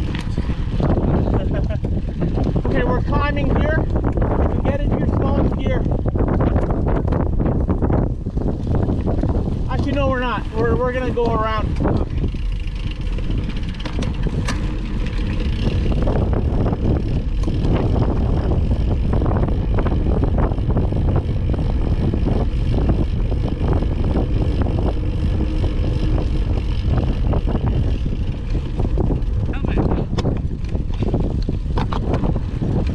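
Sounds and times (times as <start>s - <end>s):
bike rattling over ground: 0.0s - 32.9s
wind rushing over microphone: 0.0s - 32.9s.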